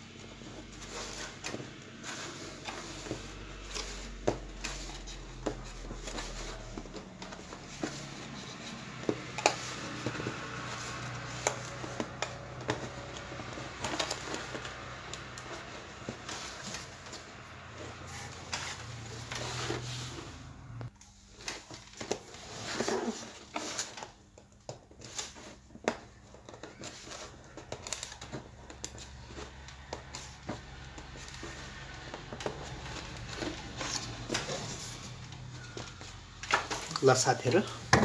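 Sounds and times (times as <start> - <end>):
paper rustles: 0.2 - 20.4, 21.0 - 38.0.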